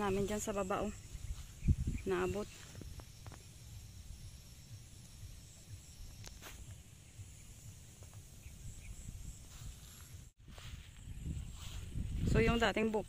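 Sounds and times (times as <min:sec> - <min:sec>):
high-pitched insect drone: 0:00.0 - 0:12.6
wind rumbling on microphone: 0:00.0 - 0:13.0.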